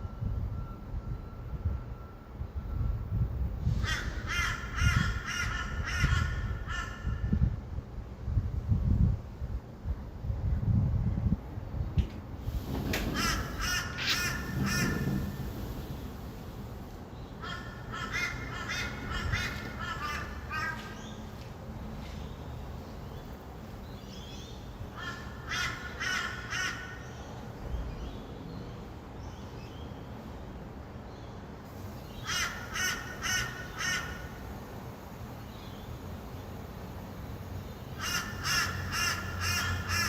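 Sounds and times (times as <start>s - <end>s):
distant traffic hum: 0.0s - 8.3s, 11.4s - 40.0s.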